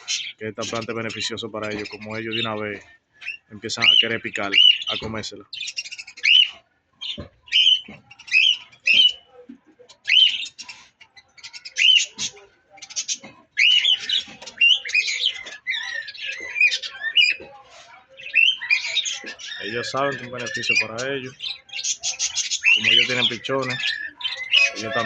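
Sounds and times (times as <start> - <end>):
budgerigars chattering: 0.0 - 9.3, 9.9 - 17.5, 18.1 - 25.0.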